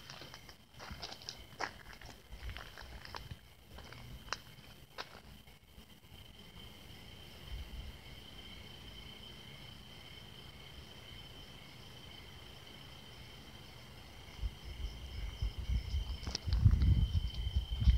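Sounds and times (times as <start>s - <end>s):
crickets trilling: 0.0s - 17.9s.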